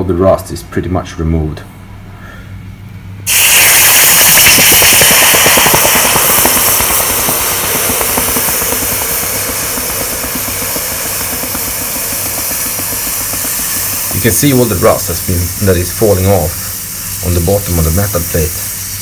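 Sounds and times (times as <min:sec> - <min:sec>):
hot metal sizzling in water: 0:03.3 - 0:19.0.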